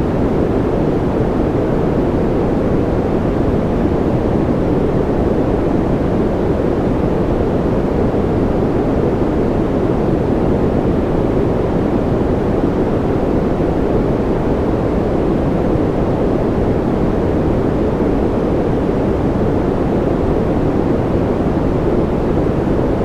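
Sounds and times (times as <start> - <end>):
white noise hiss: 0.0 - 23.0.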